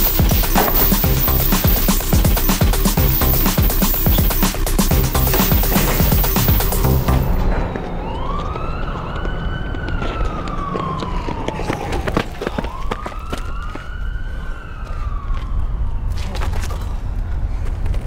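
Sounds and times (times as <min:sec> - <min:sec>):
siren wailing: 0:00.0 - 0:16.6.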